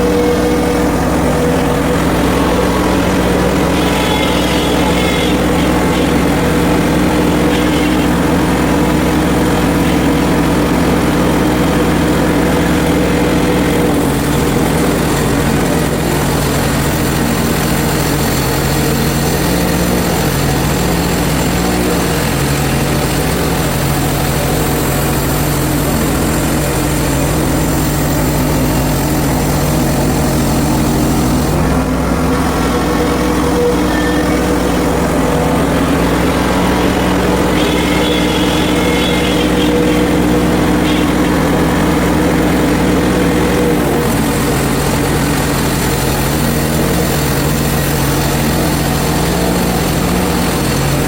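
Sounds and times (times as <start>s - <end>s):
gas engine running: 0.0s - 51.0s.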